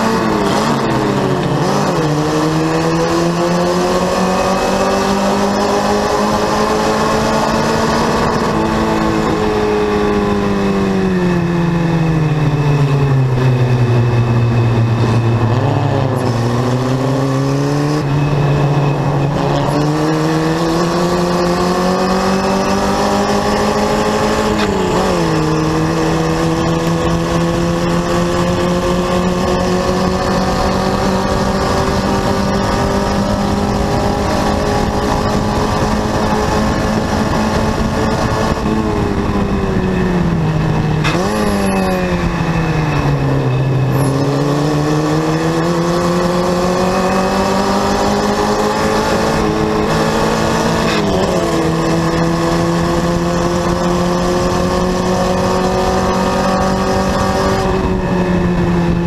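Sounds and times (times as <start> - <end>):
race car engine revving: 0.0 - 59.0
wind rush: 0.0 - 59.0.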